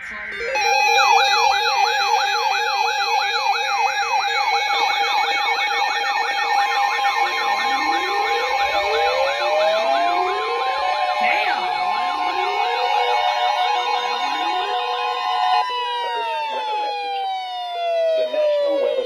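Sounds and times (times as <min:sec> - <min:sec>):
fast yelp siren: 0:00.0 - 0:19.0
slow rising siren wails: 0:00.0 - 0:19.0
steady siren tone: 0:00.0 - 0:19.0
two-tone hi-lo siren: 0:00.0 - 0:19.0.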